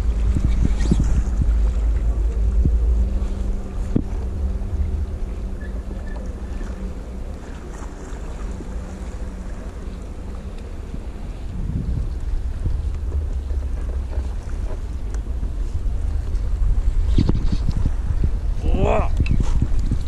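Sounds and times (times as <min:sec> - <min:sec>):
faint steady hum: 0:00.0 - 0:20.0
light water sound: 0:00.0 - 0:20.0
wind buffeting microphone: 0:00.0 - 0:20.0.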